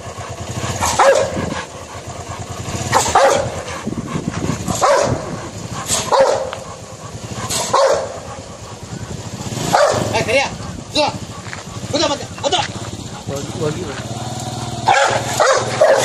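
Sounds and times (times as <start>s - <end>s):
dog barking: 0.5s - 3.8s, 4.6s - 10.6s, 11.2s - 16.0s.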